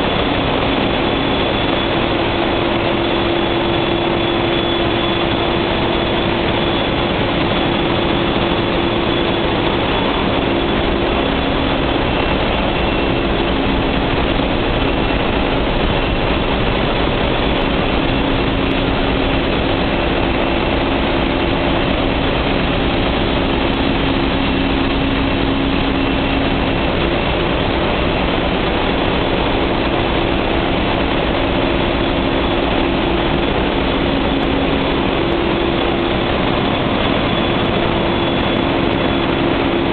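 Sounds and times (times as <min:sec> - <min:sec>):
diesel generator engines running: 0:00.0 - 0:39.9
steady machine hums: 0:00.0 - 0:39.9.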